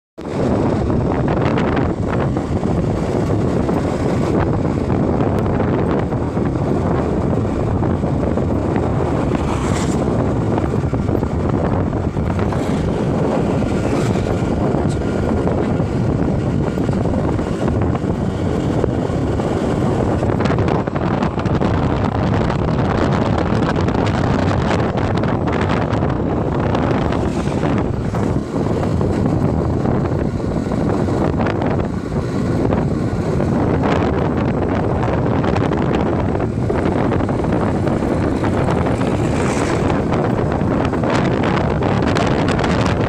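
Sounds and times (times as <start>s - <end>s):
tyre noise on road: 0.2s - 43.0s
wind rushing over microphone: 0.2s - 43.0s
scooter engine running: 0.4s - 43.0s.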